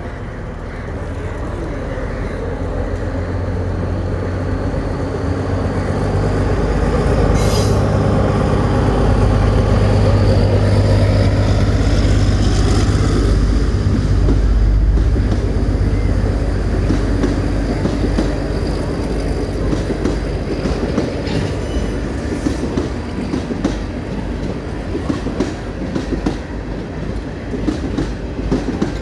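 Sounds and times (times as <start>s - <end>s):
diesel train engine and wheels: 0.0s - 29.0s.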